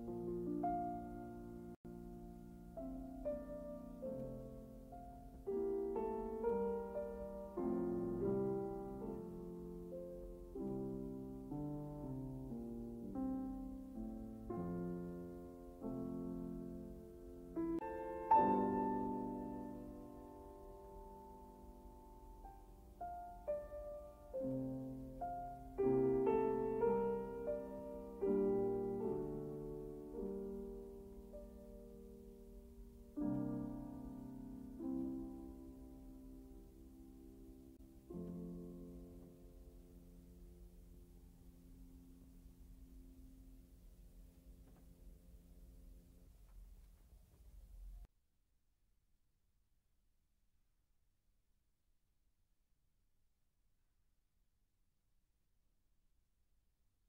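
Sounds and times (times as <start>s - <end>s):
slow piano music: 0.0s - 46.3s.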